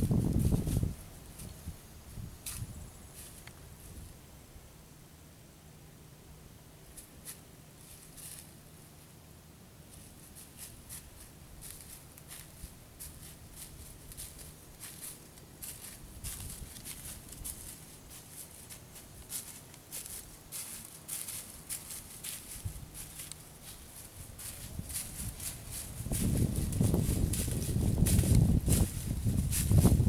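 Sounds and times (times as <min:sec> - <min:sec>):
footsteps crunching dry leaves: 0:00.0 - 0:01.7, 0:02.4 - 0:04.0, 0:07.0 - 0:08.6, 0:09.9 - 0:30.0.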